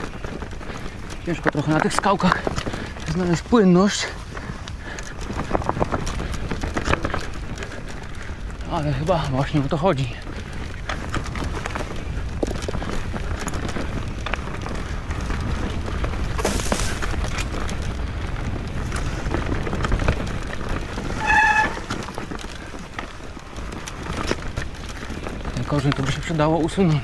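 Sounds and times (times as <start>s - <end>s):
bike knocking and rattling: 0.0s - 27.0s
tyres rumbling on rocky trail: 0.0s - 27.0s.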